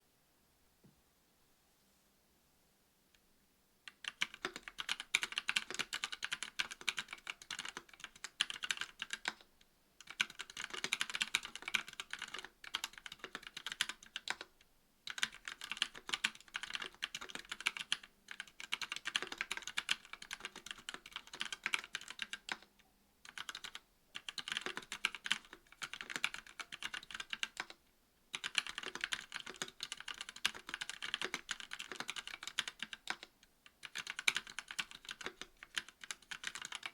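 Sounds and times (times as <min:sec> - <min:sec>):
mechanical keyboard typing: 0:03.9 - 0:14.5, 0:15.1 - 0:36.9.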